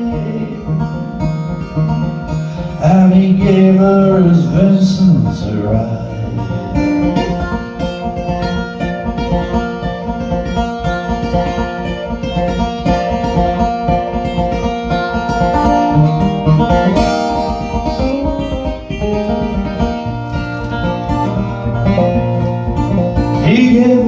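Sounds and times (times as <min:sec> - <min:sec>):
acoustic folk guitar music: 0:00.0 - 0:24.0.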